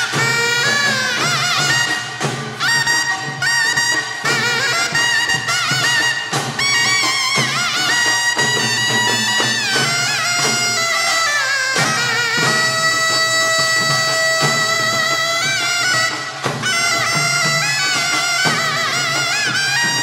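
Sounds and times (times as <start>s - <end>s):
double-reed shawm melody: 0.0s - 20.0s
percussion strokes: 0.0s - 20.0s.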